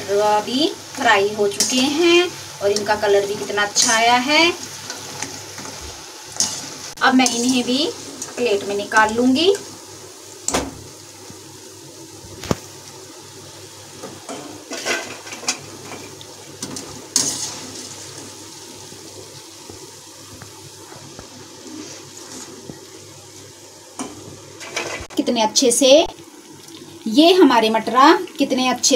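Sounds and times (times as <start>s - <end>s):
oil sizzling: 0.0s - 28.9s.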